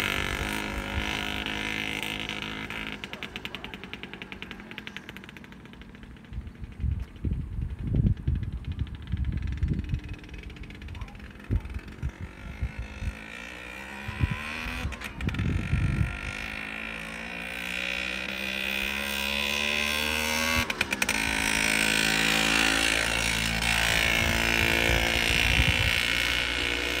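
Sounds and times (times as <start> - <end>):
moped two-stroke engine: 0.0 - 27.0.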